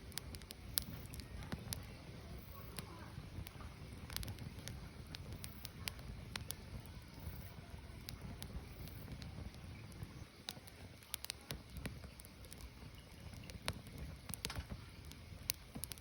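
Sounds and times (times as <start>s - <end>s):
firewood crackling and popping: 0.0s - 16.0s
low rumble of fire: 0.0s - 16.0s.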